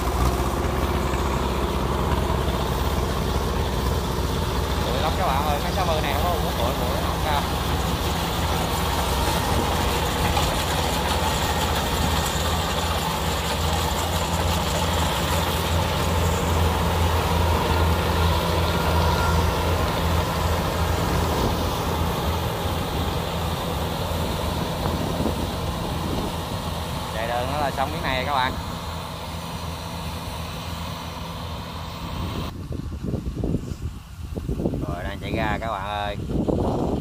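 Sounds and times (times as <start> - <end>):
combine harvester running: 0.0 - 37.0.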